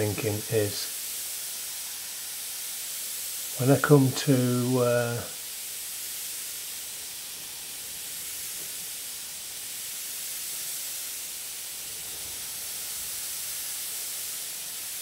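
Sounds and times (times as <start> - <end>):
airbrush hissing: 0.0 - 15.0.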